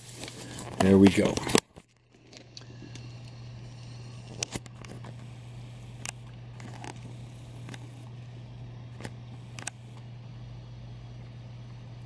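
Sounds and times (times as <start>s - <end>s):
low hum: 1.4s - 12.0s.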